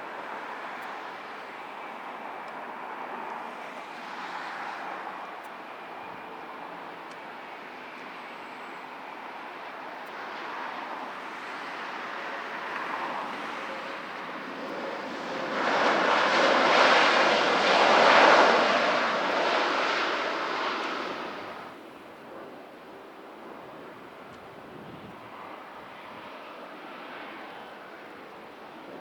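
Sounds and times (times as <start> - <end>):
jet engines roaring past: 0.0 - 29.0.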